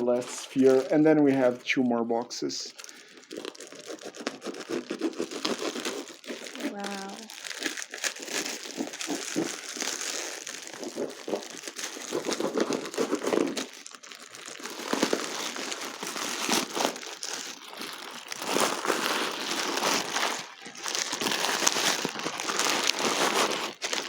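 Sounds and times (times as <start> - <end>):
paper crinkling and rustling: 0.0 - 1.6, 2.7 - 24.0.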